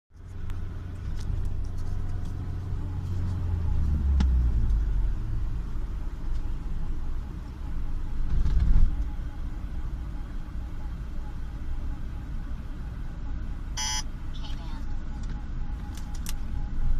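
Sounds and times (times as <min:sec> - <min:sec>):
car road and engine drone: 0:00.1 - 0:16.9.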